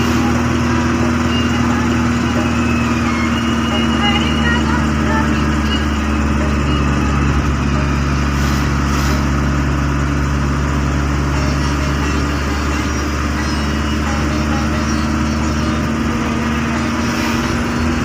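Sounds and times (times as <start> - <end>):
road noise: 0.0 - 18.0
vehicle engine droning: 0.0 - 18.0.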